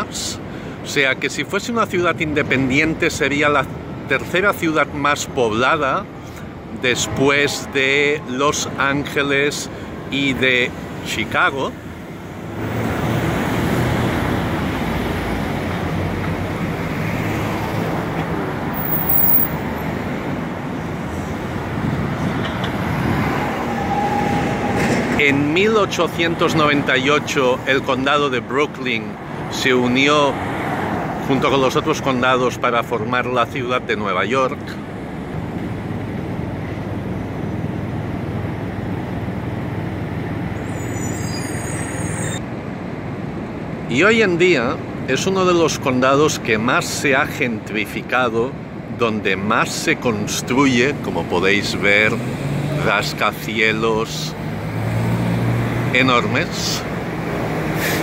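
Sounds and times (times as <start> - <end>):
motor vehicles rumbling: 0.0 - 58.0
tyres passing on road: 0.0 - 58.0.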